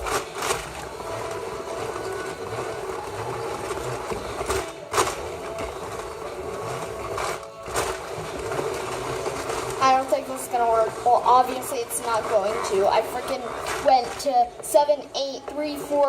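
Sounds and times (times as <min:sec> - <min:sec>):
toy ice cream maker whirring: 0:00.0 - 0:16.0.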